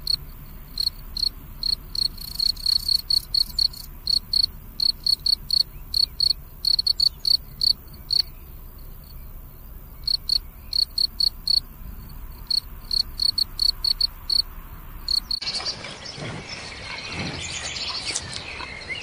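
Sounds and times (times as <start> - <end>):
cricket chirping: 0.0 - 15.4.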